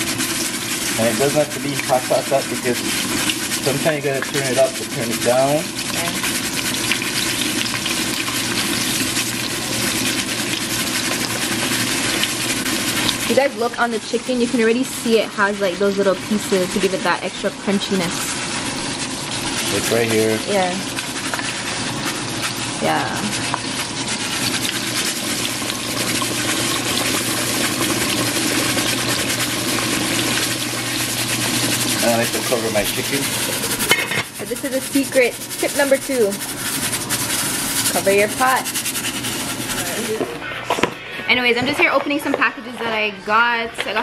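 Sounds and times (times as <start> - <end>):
chicken sizzling in hot oil: 0.0 - 40.3.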